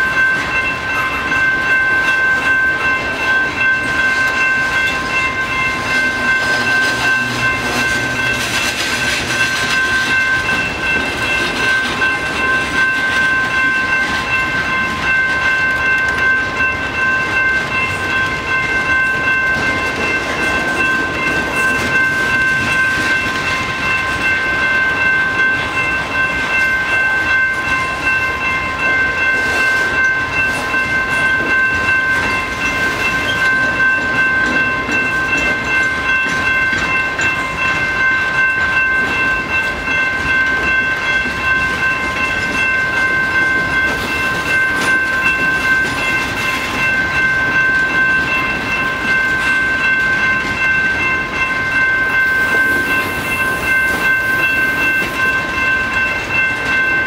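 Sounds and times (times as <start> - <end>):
crossing warning bell ringing: 0.0 - 57.0
train wheels rumbling on rails: 0.0 - 57.0.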